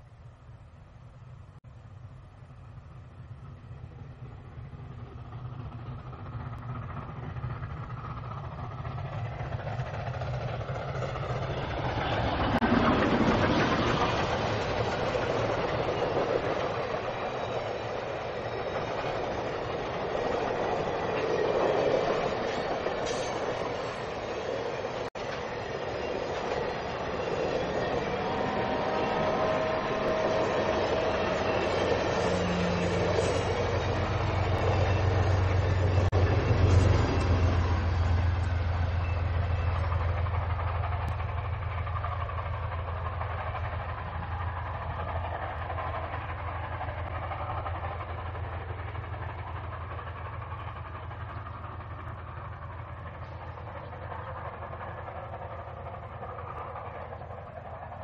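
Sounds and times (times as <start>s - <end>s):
steam train rumbling past: 0.0s - 58.0s.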